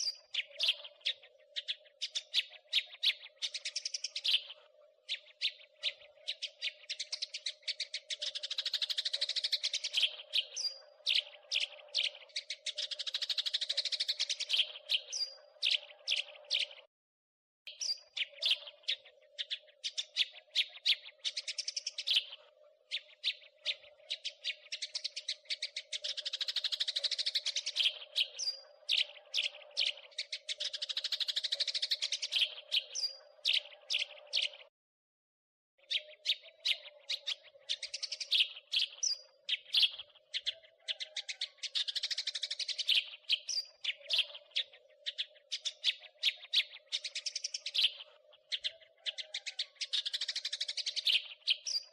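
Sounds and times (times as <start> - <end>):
sparrows chirping: 0.0 - 16.9, 17.7 - 34.7, 35.8 - 51.9.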